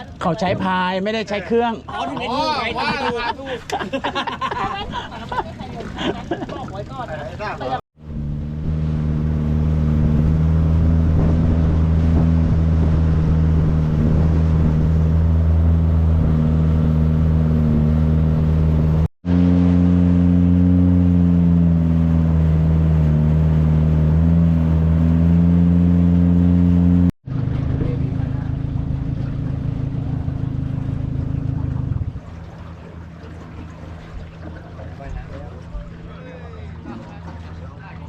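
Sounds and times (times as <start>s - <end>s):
motorboat engine running: 0.0s - 38.0s.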